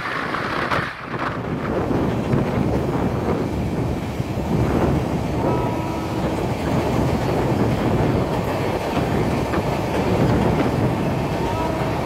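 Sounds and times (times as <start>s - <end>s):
train rumble and clatter on track: 0.0s - 12.0s.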